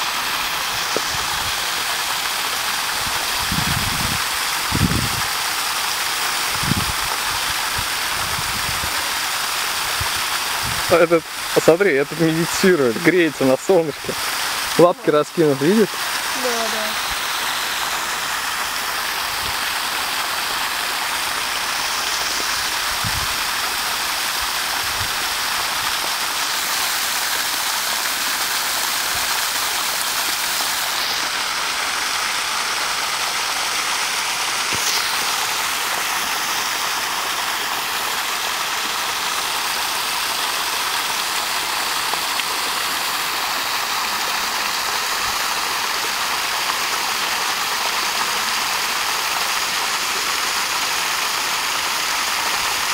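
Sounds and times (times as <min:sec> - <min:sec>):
steady rushing hiss: 0:00.0 - 0:52.9.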